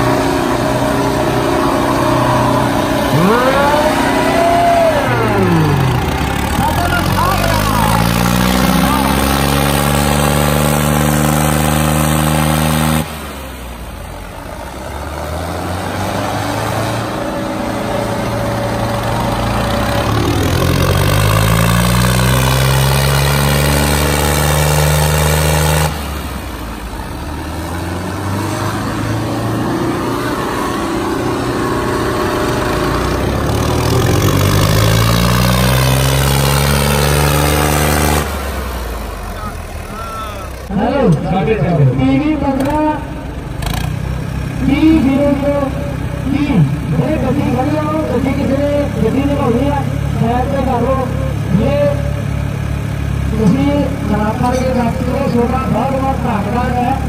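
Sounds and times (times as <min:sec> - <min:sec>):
diesel tractor engines revving: 0:00.0 - 0:57.0.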